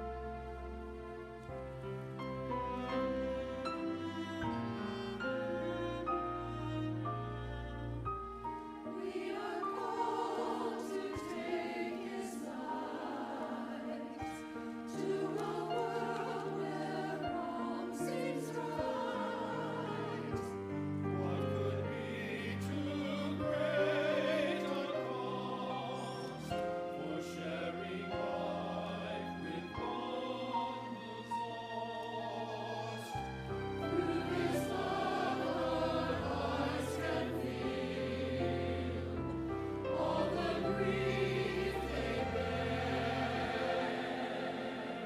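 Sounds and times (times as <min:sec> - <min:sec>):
choir singing: 0:00.0 - 0:45.0.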